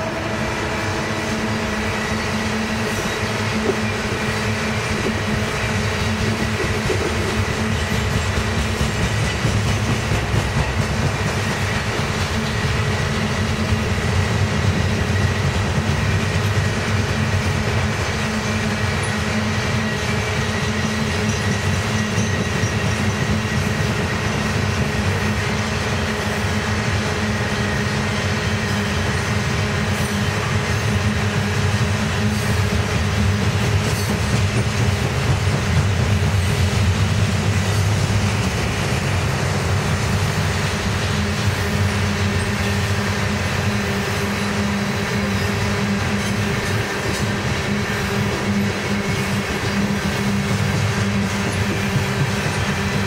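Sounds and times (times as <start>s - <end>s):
high whine of wheel on rail: 0.0s - 53.0s
train wheels clattering over rails: 0.0s - 53.0s.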